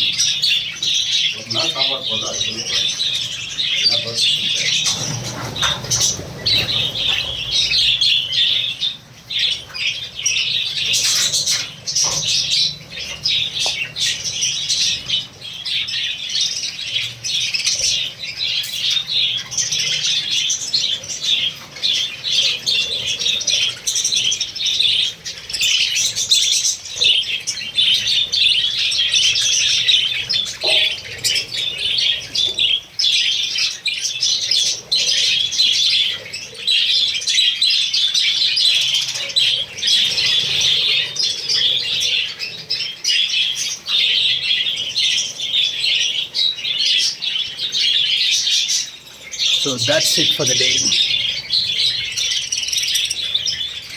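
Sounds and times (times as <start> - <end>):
flock of birds chattering and squawking: 0.0 - 53.9.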